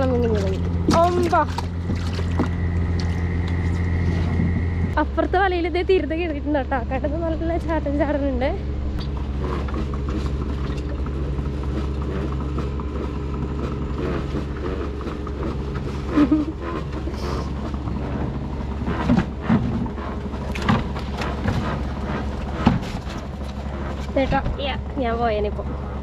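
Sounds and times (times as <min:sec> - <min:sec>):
motorcycle engine running steadily: 0:00.0 - 0:26.0.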